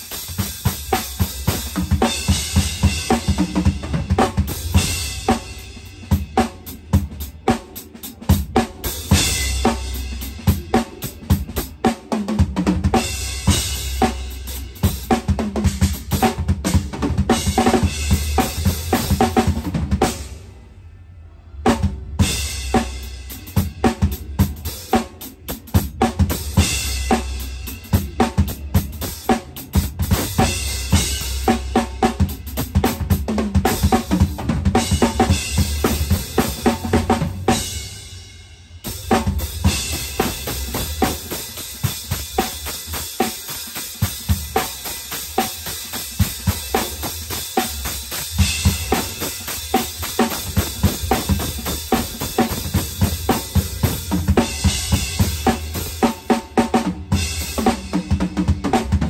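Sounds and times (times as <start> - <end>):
drum kit fast fills: 0.0 - 20.5, 21.7 - 59.0.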